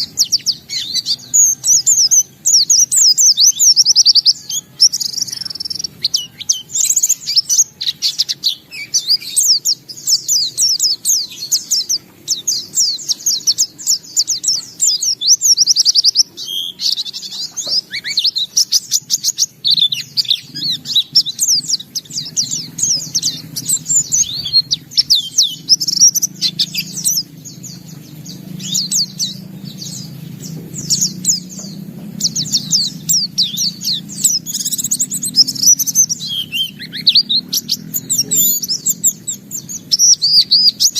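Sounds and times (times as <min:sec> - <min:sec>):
bird twittering song: 0:00.0 - 0:40.9
faint low hum: 0:00.0 - 0:40.9.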